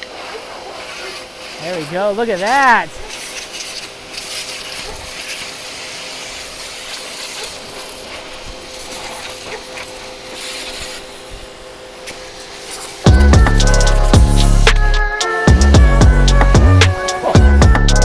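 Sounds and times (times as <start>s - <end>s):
water spray hissing: 0.1s - 17.6s
pressure washer motor hum: 0.9s - 18.0s.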